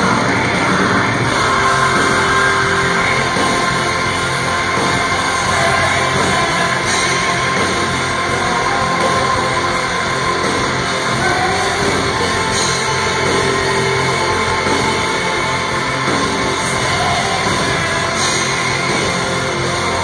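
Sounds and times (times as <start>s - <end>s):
electric guitars: 0.0s - 20.0s
live rock band playing: 0.0s - 20.0s.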